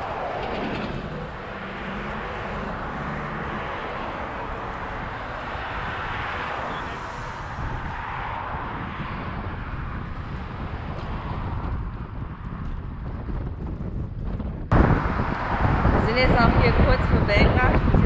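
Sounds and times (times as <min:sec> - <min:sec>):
cars passing close by: 0:00.0 - 0:13.0, 0:14.7 - 0:18.0.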